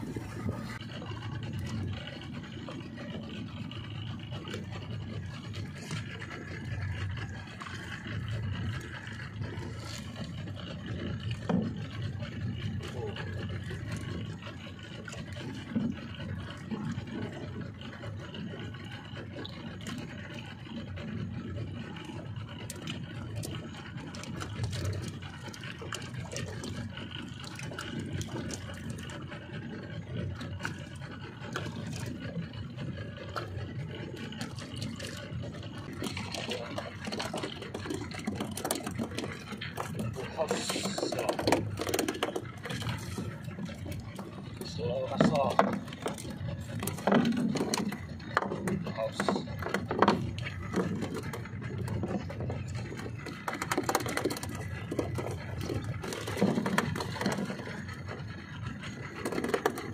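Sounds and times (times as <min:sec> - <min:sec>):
water and wind rumble: 0:00.0 - 0:59.9
water slapping hull: 0:00.0 - 0:59.9.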